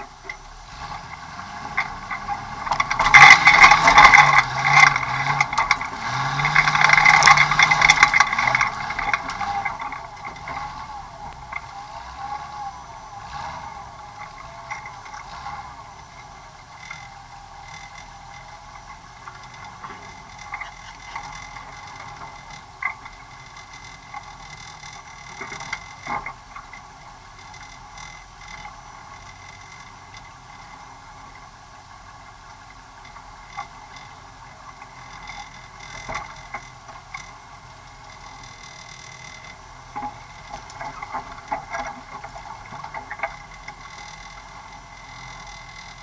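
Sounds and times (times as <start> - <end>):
faint whine: 0.0 - 46.0
vehicle engine running slow: 0.0 - 46.0.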